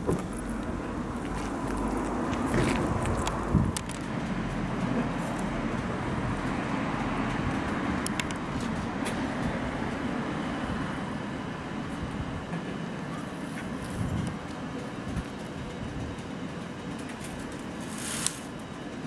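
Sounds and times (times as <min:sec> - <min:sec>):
bus diesel engine idling: 0:00.0 - 0:19.0.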